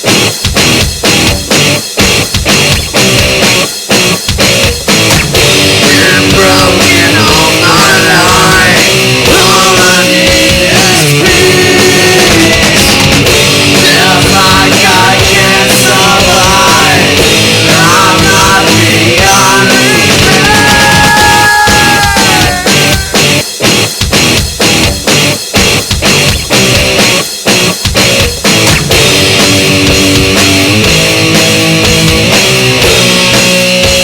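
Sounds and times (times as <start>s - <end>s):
heavy rock music: 0.0s - 34.0s.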